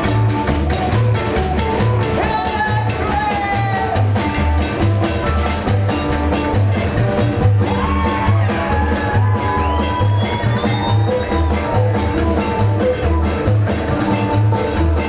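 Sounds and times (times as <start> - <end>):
guitar with bending notes: 0.0 - 15.0
pulsing bass line: 0.0 - 15.0
rockabilly band playing: 0.0 - 15.0.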